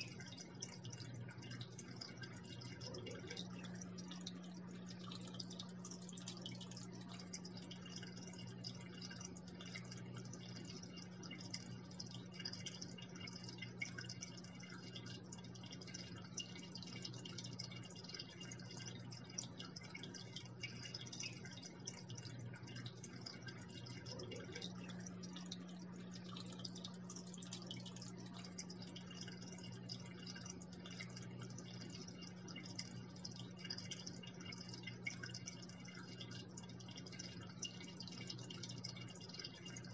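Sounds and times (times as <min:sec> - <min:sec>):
low steady hum: 0:00.0 - 0:39.9
water trickling into aquarium: 0:00.0 - 0:39.9.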